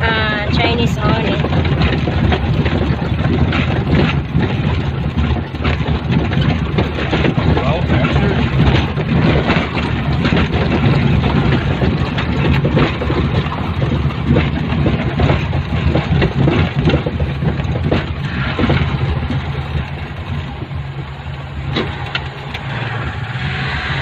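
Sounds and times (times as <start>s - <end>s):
knocks and rattles: 0.0s - 24.0s
vehicle engine running: 0.0s - 24.0s.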